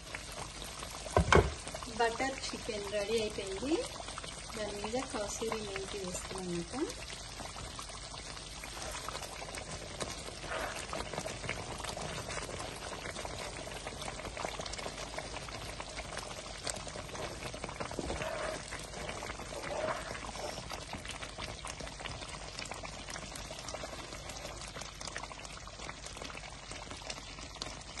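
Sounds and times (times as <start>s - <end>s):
thick gravy bubbling and popping: 0.0s - 28.0s
spatula stirring in a pan: 3.1s - 28.0s.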